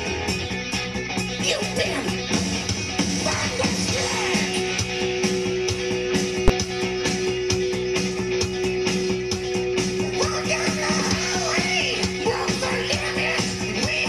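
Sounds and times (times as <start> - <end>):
rock music with guitar: 0.0 - 14.0.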